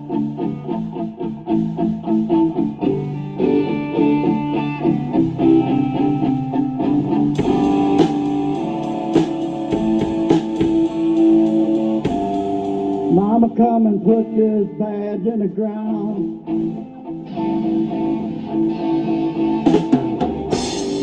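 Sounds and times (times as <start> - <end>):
electric guitar playing: 0.0 - 21.0.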